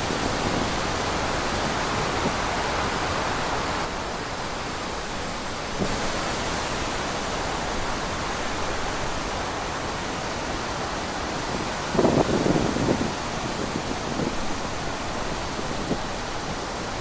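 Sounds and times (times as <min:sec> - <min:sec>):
wind blowing through trees: 0:00.0 - 0:17.0.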